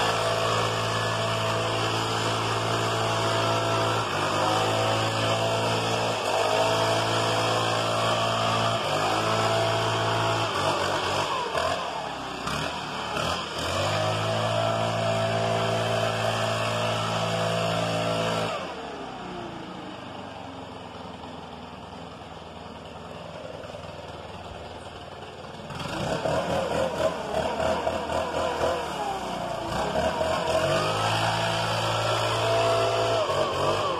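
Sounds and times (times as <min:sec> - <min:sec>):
leaf blower engine revving: 0:00.0 - 0:33.9.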